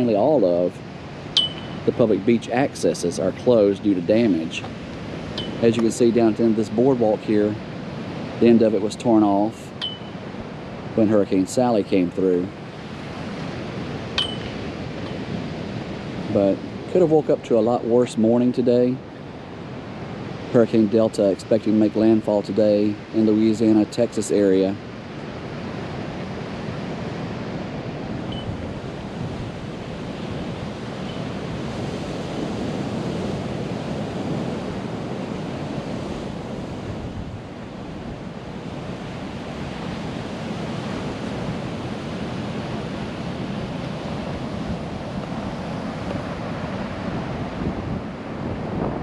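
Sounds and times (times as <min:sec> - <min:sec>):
wind buffeting microphone: 0:00.0 - 0:11.0, 0:12.4 - 0:17.3, 0:25.0 - 0:49.0
surf washing onto beach: 0:00.0 - 0:49.0.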